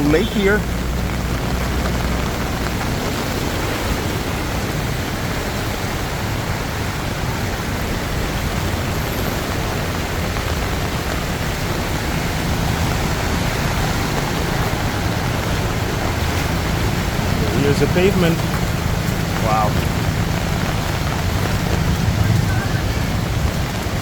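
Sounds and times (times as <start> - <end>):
heavy rain on a flooded street: 0.0 - 24.0.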